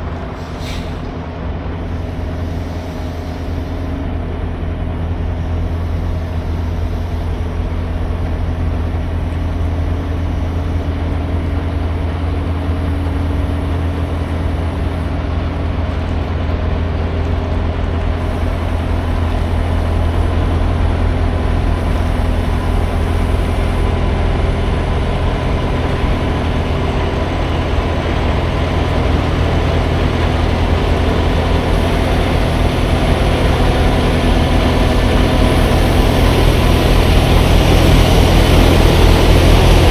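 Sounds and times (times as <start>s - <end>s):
diesel truck engine running: 4.1s - 39.9s.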